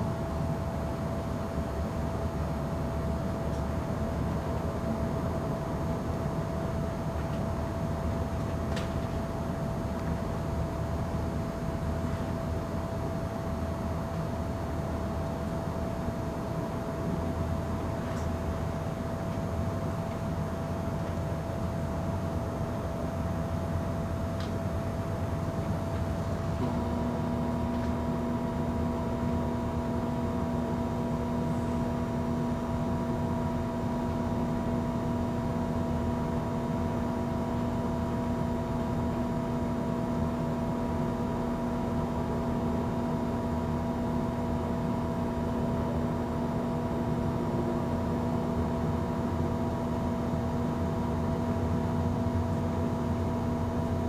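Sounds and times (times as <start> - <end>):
faint steady whine: 0.0 - 54.0
lamp ballast electrical hum: 0.0 - 54.0.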